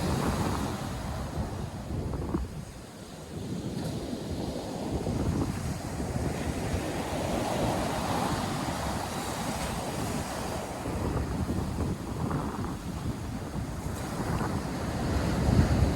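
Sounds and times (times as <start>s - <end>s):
surf breaking and washing in: 0.0s - 15.9s
wind buffeting microphone: 0.0s - 15.9s.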